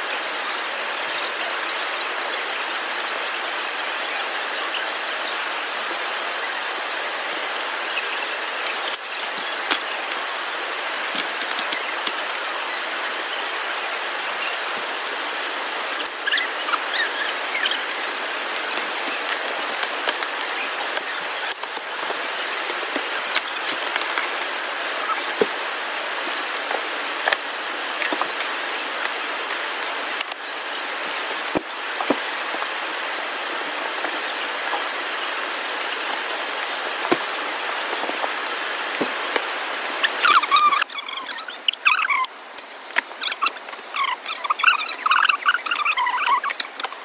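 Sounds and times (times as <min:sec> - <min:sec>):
flowing river water: 0:00.0 - 0:47.0.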